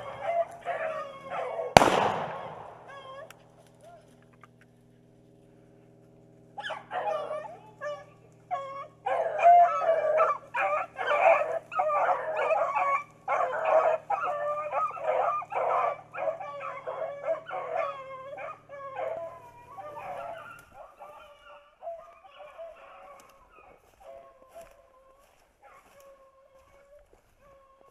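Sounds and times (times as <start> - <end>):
dogs baying: 0.0 - 3.4, 6.6 - 27.9.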